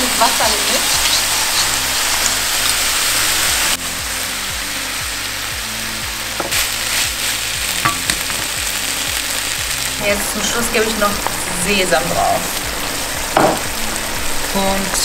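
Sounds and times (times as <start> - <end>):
stir-fry sizzling in a frying pan: 0.0 - 15.0.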